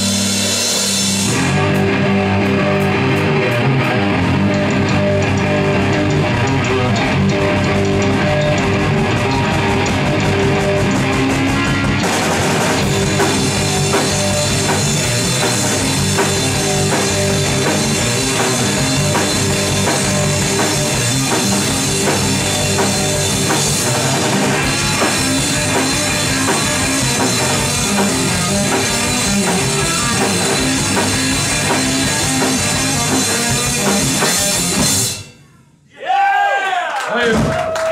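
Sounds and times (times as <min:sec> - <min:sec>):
electric guitars: 0:00.0 - 0:35.2
drum kit: 0:00.0 - 0:35.6, 0:37.2 - 0:37.9
heavy rock band playing: 0:00.0 - 0:35.6.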